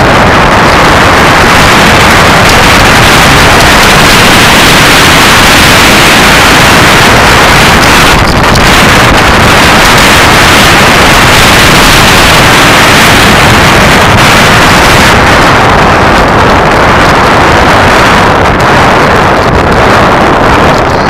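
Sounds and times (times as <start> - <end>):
ride rumble: 0.0 - 21.0
wind buffeting microphone: 0.0 - 21.0.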